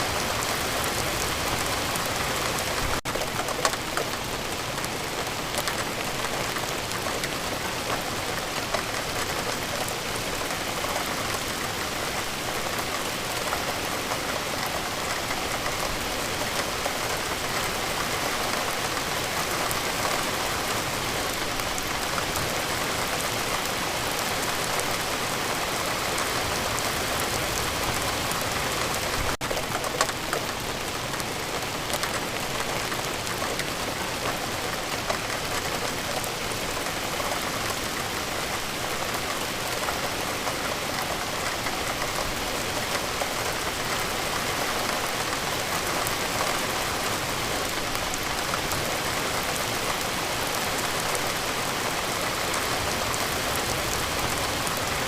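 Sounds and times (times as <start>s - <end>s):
steady rainfall hiss: 0.0s - 55.0s.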